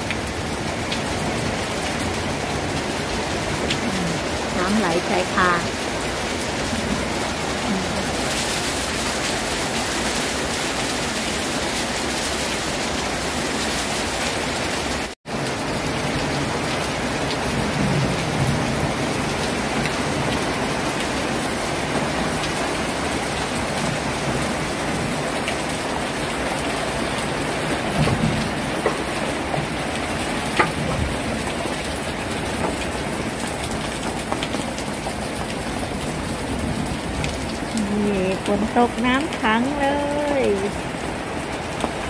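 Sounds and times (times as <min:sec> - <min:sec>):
rain on leaves: 0:00.0 - 0:42.0
water running off eaves: 0:00.0 - 0:42.0.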